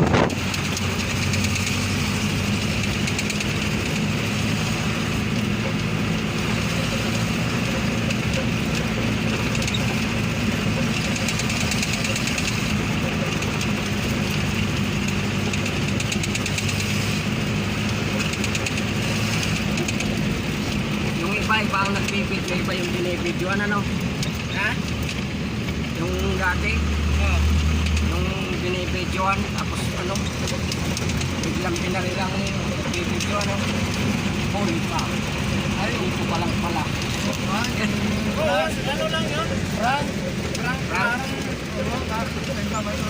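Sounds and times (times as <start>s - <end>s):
vehicle engine humming while driving: 0.0s - 43.0s.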